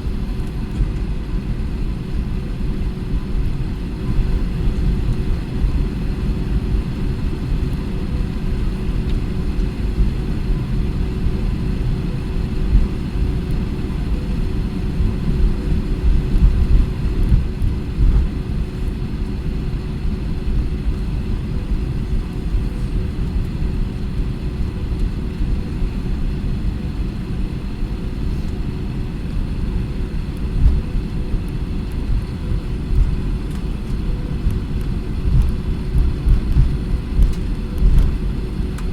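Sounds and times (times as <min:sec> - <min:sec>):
aircraft engines rumbling: 0:00.0 - 0:38.9
constant cabin hum: 0:00.0 - 0:38.9.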